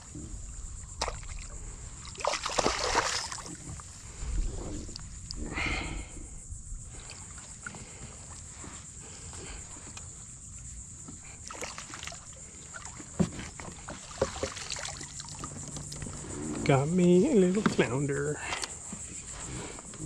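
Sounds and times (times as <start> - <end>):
water sloshing and splashing: 0.0 - 5.4, 6.9 - 19.8.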